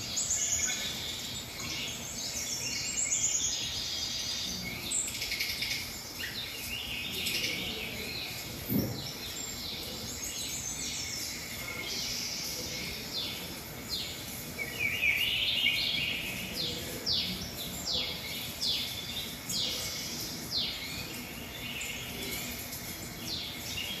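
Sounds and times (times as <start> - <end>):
songbirds chirping: 0.0 - 24.0
steady background hiss: 0.0 - 24.0.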